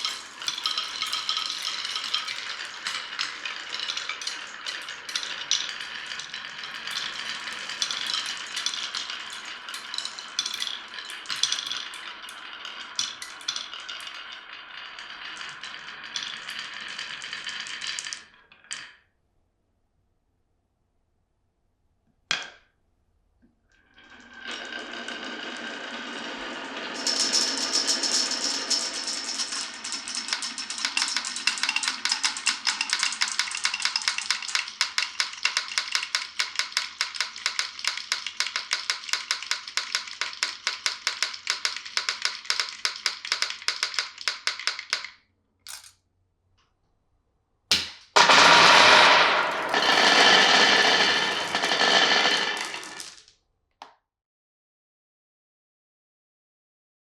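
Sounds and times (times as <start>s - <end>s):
marbles clattering down wooden run: 0.0s - 19.0s, 24.0s - 45.9s, 47.7s - 53.3s.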